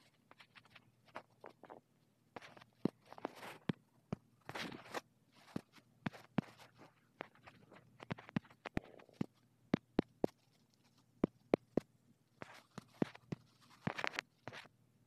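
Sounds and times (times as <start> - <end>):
fingertips tapping touchscreen: 2.4 - 14.7.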